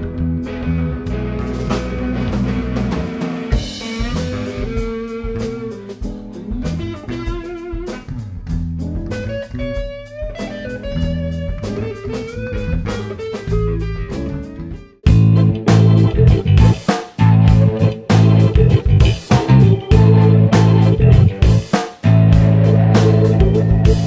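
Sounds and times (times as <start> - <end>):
bluesy band music: 0.0 - 24.0.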